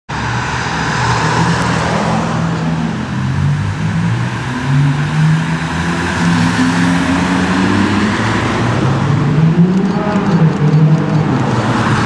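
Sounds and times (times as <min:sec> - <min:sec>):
car engines at low revs: 0:00.1 - 0:12.0
road noise: 0:00.1 - 0:12.0.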